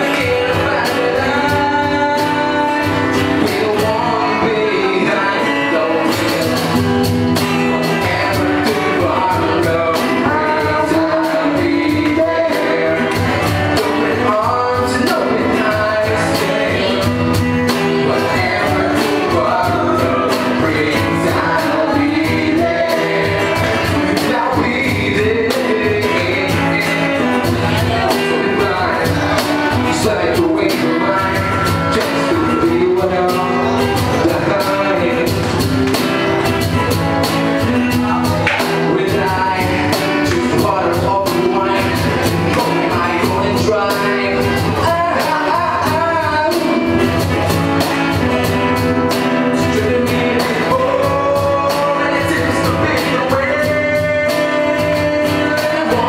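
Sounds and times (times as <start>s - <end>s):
live rock band playing: 0.0s - 56.0s
person singing: 0.0s - 56.0s
steady drum beat: 0.0s - 56.0s.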